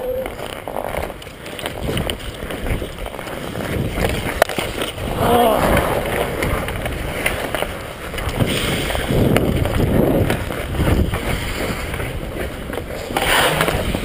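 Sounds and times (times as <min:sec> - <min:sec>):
skate blades scraping on ice: 0:00.0 - 0:14.0
wind rumbling on microphone: 0:00.0 - 0:14.0.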